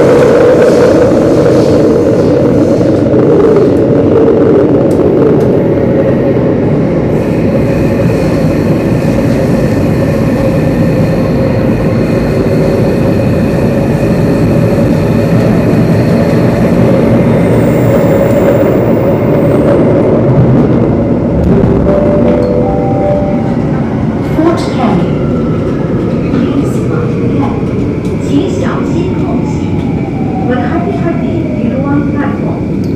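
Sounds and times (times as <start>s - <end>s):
train rumbling through tunnel: 0.0s - 32.9s.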